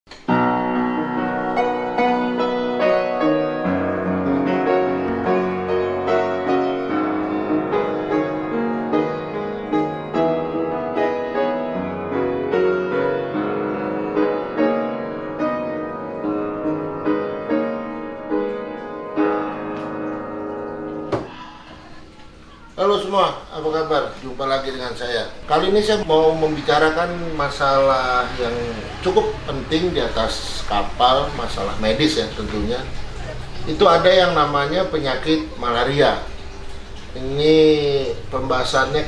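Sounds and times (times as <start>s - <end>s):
solo upright piano: 0.1s - 39.0s.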